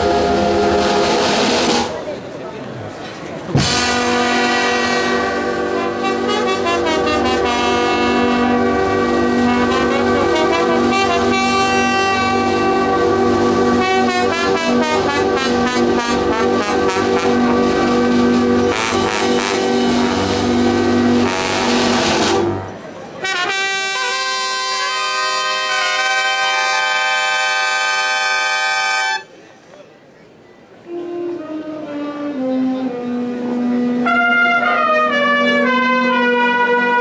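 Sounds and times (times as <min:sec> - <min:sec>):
brass band playing: 0:00.0 - 0:02.0, 0:03.6 - 0:29.3, 0:30.9 - 0:37.0.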